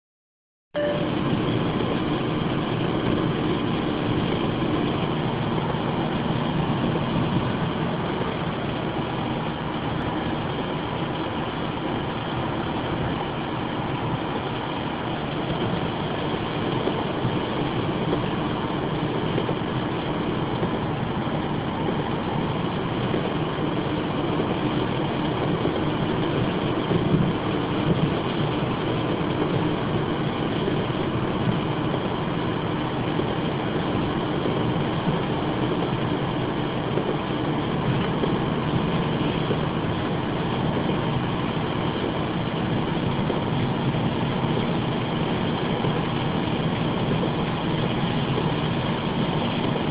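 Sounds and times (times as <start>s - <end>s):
car engine hum: 0.8s - 49.9s.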